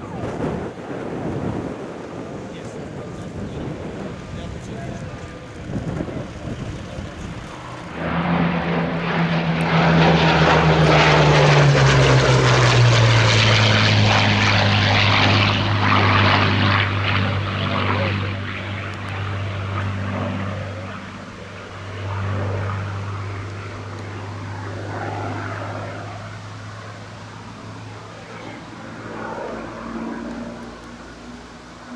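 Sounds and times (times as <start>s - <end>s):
propeller aircraft flying past: 0.0s - 31.9s.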